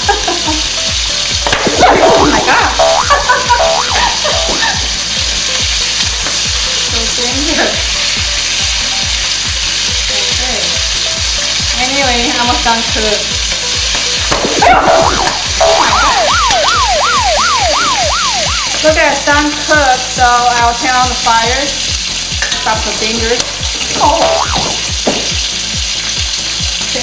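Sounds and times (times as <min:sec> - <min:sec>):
food deep-frying in oil: 0:00.0 - 0:27.0.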